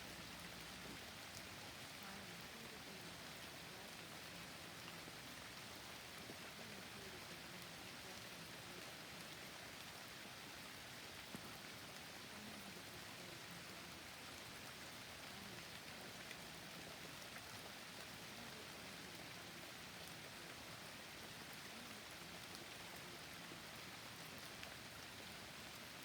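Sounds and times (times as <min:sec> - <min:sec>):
rain falling in forest: 0:00.0 - 0:26.0.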